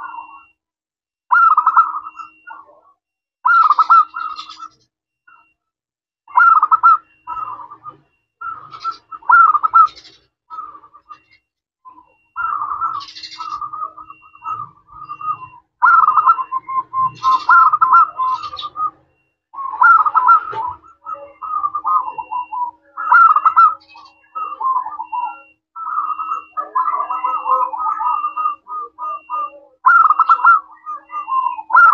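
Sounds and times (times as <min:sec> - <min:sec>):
dove cooing: 0:00.0 - 0:00.5, 0:01.3 - 0:02.8, 0:03.5 - 0:04.8, 0:06.3 - 0:31.9.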